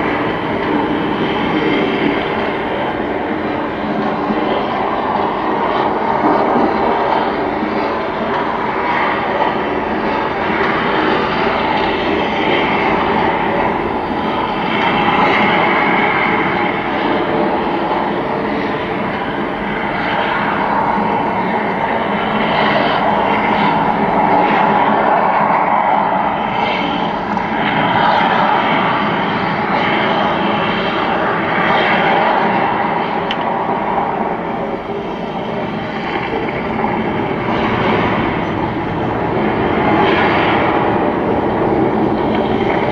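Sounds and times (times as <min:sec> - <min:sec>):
loud steady roar: 0:00.0 - 0:42.9.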